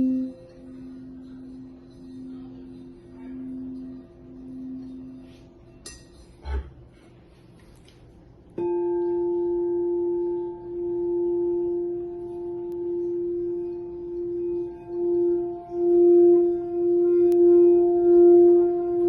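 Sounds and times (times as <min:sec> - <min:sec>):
singing bowl ringing: 0:00.0 - 0:06.4, 0:08.6 - 0:19.0.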